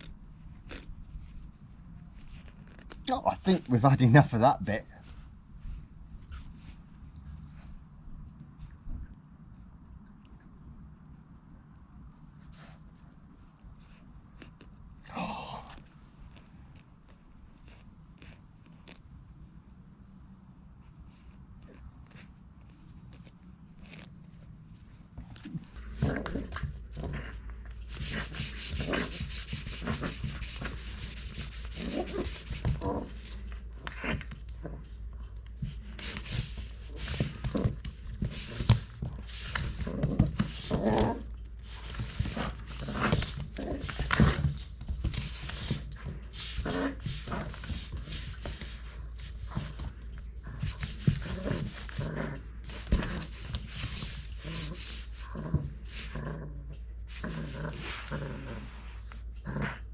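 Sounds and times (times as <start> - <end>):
puppy scuffling and rubbing: 0.0 - 9.2, 10.2 - 15.0, 15.7 - 59.9.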